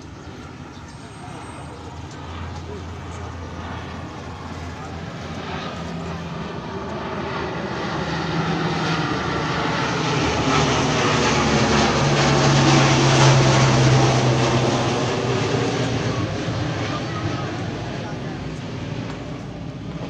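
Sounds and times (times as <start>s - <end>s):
turboprop plane droning overhead: 0.0s - 20.0s.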